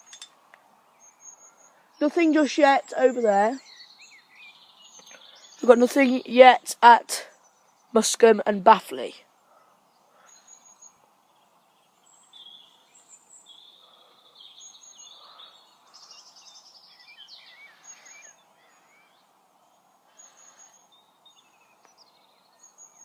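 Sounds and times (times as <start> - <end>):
faint outdoor hiss: 0.0 - 23.0
songbirds chirping and trilling: 0.0 - 23.0.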